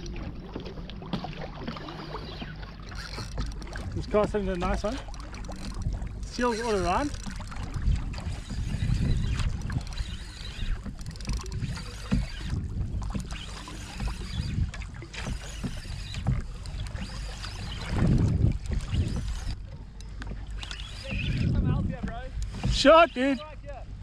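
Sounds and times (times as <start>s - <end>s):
water moving around kayak: 0.0s - 24.0s
wind buffeting microphone: 3.0s - 19.9s, 20.9s - 23.5s.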